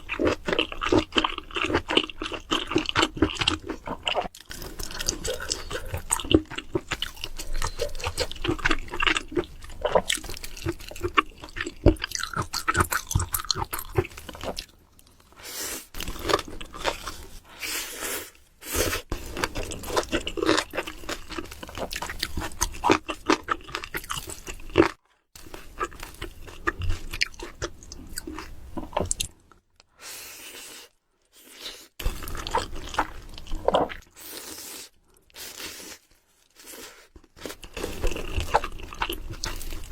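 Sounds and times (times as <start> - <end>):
crunching and chewing: 0.0 - 29.9, 31.6 - 39.9.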